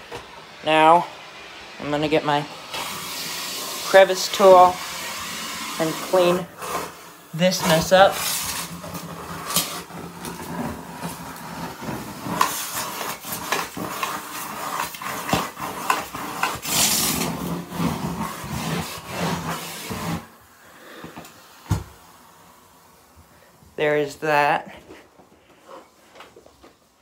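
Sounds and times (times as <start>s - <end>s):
vacuum suction hiss: 0.0s - 27.0s.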